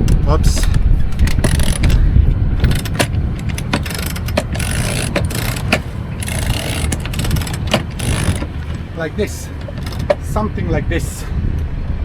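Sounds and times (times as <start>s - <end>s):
sailboat deck hardware clicking: 0.0s - 10.6s.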